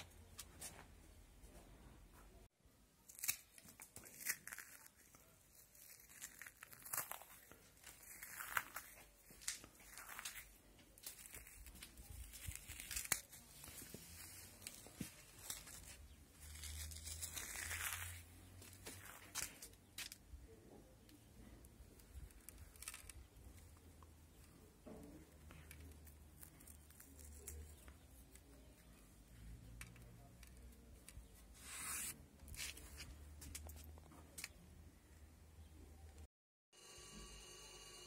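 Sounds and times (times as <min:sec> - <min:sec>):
biscuit crunching and crackling: 0:03.0 - 0:34.6
rustling crumbs: 0:03.0 - 0:34.6.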